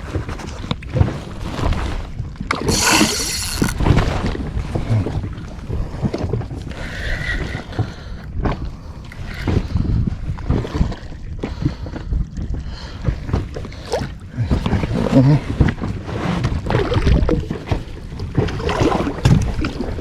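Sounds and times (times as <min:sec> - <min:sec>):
water lapping against boat hull: 0:00.2 - 0:20.0.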